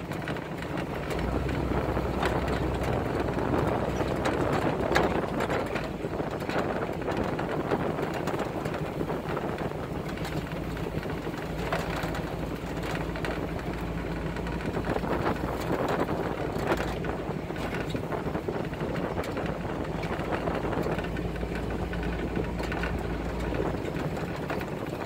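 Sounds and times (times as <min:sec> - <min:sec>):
vehicle body knocks and rattles: 0:00.0 - 0:25.0
vehicle engine running: 0:00.0 - 0:25.0.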